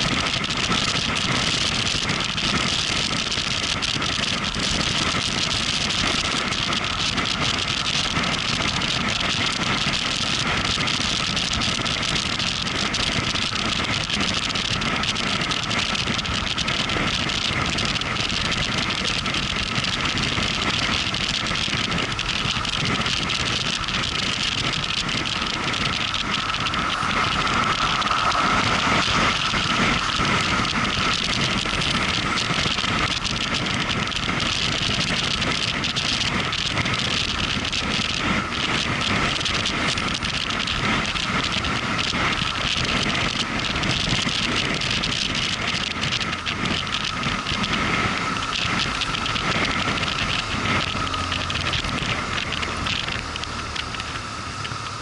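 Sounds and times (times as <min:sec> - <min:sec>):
motorcycle engine: 0:00.0 - 0:55.0
thin steady whine: 0:00.0 - 0:55.0
wind noise: 0:00.0 - 0:55.0.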